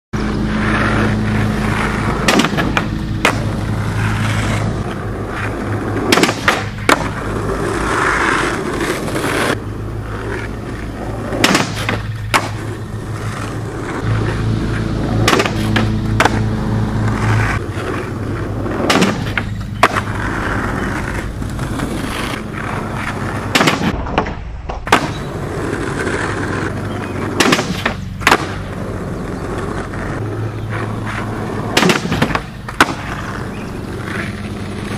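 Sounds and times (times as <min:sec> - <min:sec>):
skateboard wheels rolling on asphalt: 0:00.2 - 0:34.9
skateboard clacks: 0:00.4 - 0:34.9.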